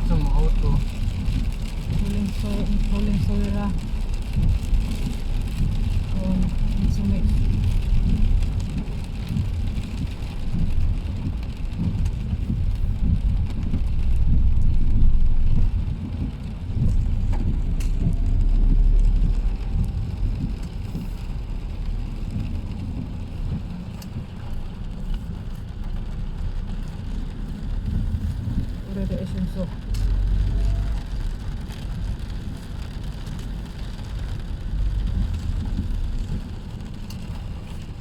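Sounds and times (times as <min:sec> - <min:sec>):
car engine rumble: 0:00.0 - 0:38.0
heavy rain on a car: 0:00.0 - 0:38.0.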